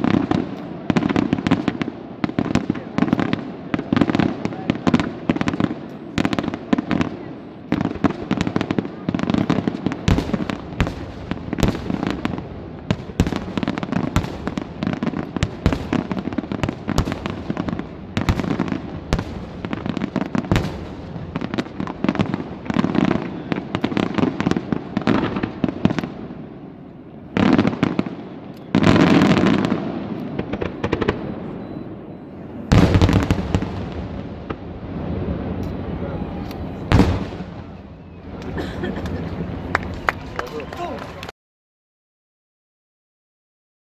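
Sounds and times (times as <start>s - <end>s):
fireworks bangs and crackles: 0.0s - 41.3s
heavy firework blasts: 0.0s - 41.3s.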